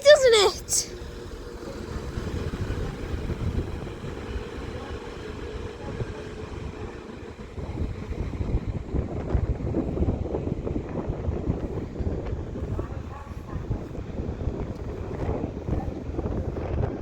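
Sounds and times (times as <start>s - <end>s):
train rumbling slowly: 0.0s - 17.0s.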